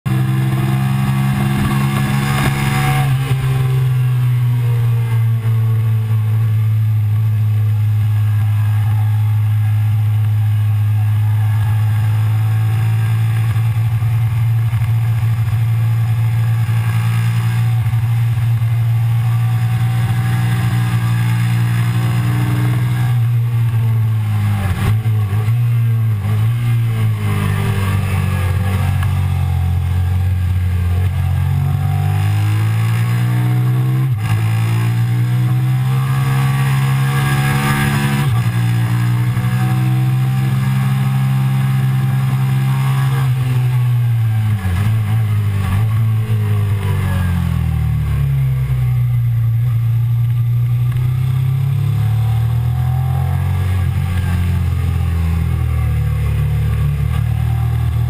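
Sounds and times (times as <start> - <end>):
motorcycle engine running hard: 0.1 - 58.0.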